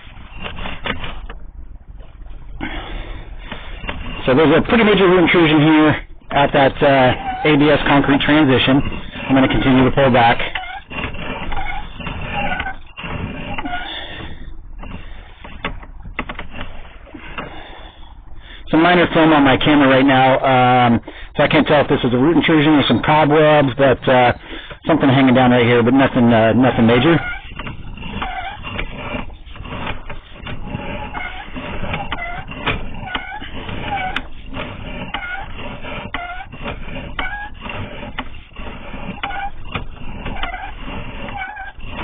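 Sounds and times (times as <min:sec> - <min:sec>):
cable rod scraping and rattling: 0:00.0 - 0:42.0
short squeaks: 0:00.0 - 0:42.0.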